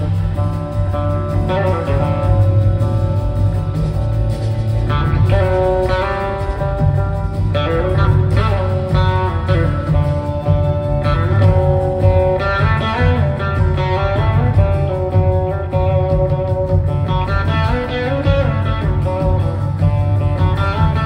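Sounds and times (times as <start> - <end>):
drums: 0.0 - 21.0
heavy bass: 0.0 - 21.0
lead guitar sliding notes: 0.0 - 21.0.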